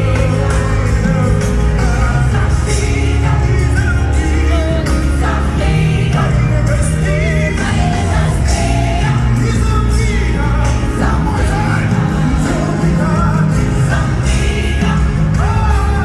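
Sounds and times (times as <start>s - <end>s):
band playing gospel music: 0.0s - 16.0s
voices singing: 0.0s - 16.0s.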